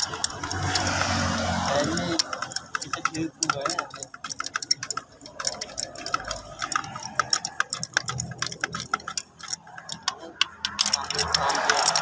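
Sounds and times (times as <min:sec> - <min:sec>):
light clicks and taps on metal: 0:00.0 - 0:12.0.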